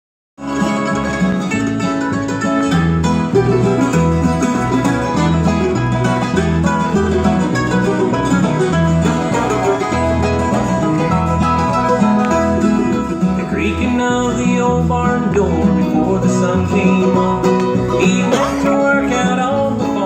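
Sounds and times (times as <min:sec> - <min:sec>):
banjo picking: 0:00.4 - 0:20.0
bass line: 0:00.4 - 0:20.0
guitar picking: 0:00.4 - 0:20.0.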